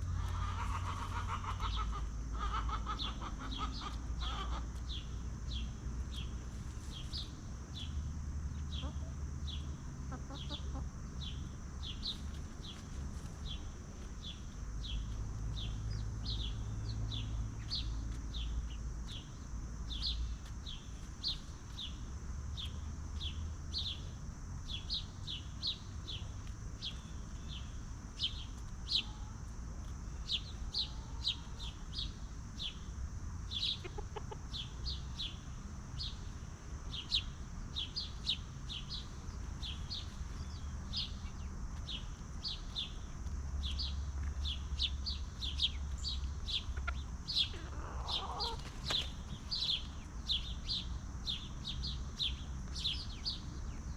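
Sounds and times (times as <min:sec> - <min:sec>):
chickens peeping: 0:00.0 - 0:24.0, 0:24.7 - 0:53.8.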